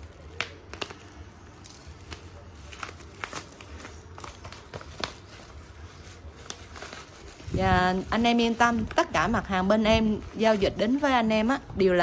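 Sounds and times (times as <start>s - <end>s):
paper crinkling: 0.0s - 11.2s.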